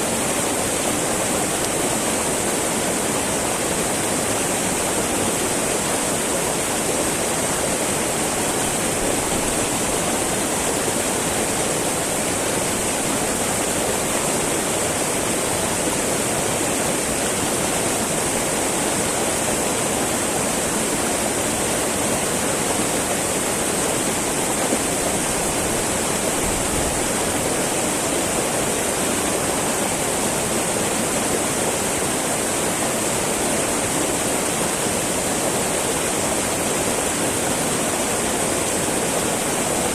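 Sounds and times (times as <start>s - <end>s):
river babbling over rocks: 0.0s - 39.9s.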